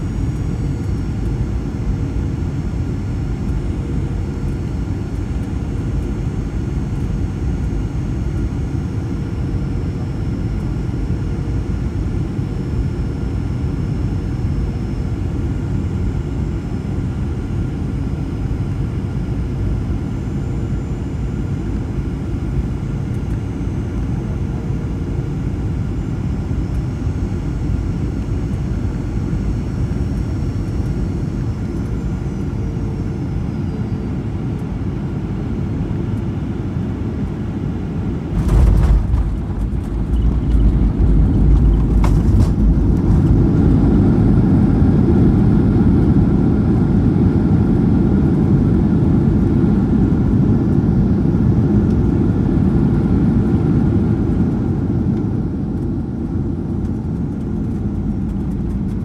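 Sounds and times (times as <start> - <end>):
airliner cabin noise: 0.0 - 59.0
jet engine roar: 0.0 - 59.0.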